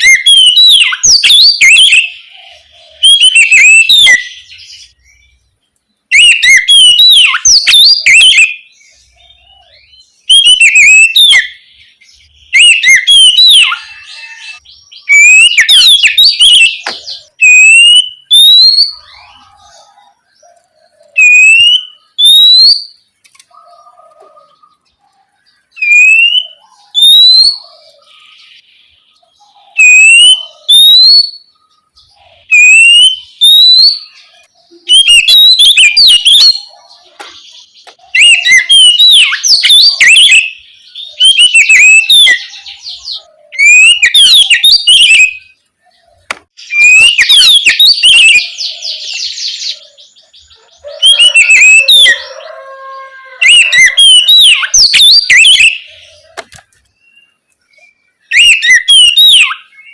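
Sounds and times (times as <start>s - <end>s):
songbird singing loudly: 0.0s - 59.9s.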